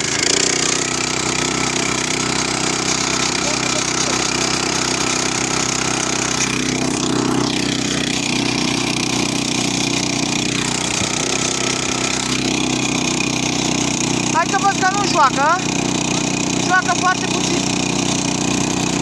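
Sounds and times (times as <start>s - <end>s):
small tractor engine running: 0.0s - 19.0s.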